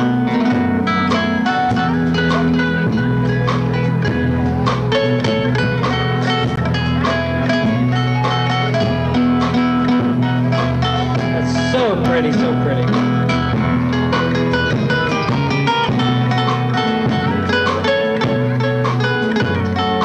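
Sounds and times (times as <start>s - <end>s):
guitar picking a melody: 0.0s - 20.0s
steady bass: 0.0s - 20.0s.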